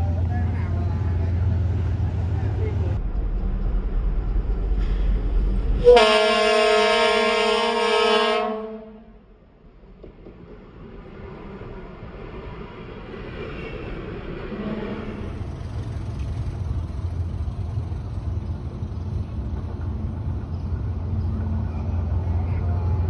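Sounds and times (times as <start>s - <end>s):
diesel train rumbling: 0.0s - 23.0s.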